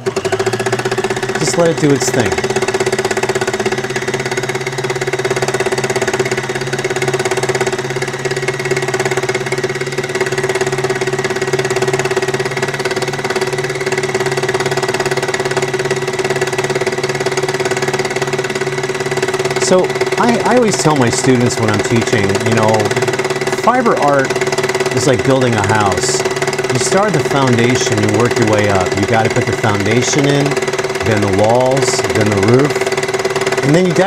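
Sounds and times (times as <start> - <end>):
needle-felting machine humming: 0.0 - 34.0.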